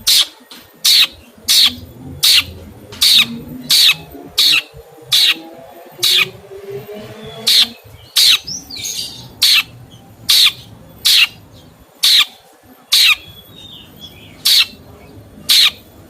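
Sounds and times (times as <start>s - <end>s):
faint bird twittering: 0.0s - 16.0s
songbird squawking calls: 0.0s - 16.0s.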